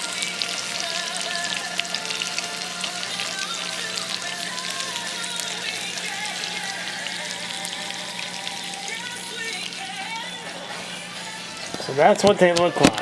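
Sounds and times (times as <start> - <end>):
fish sizzling in a pan: 0.0 - 12.2
music: 0.0 - 13.0.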